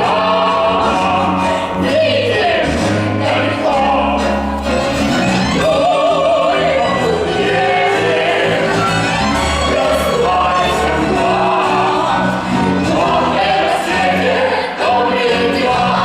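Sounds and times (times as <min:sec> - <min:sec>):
voices singing together: 0:00.0 - 0:04.8, 0:05.5 - 0:16.0
orchestral accompaniment: 0:00.0 - 0:16.0.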